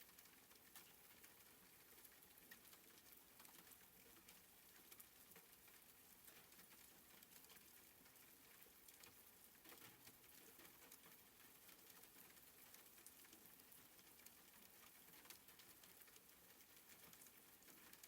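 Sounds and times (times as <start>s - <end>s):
soft rain: 0.0s - 18.0s.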